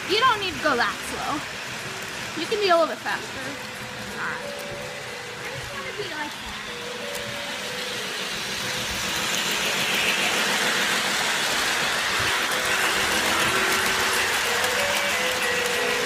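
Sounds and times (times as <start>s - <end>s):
toy train whirring: 0.0s - 16.0s.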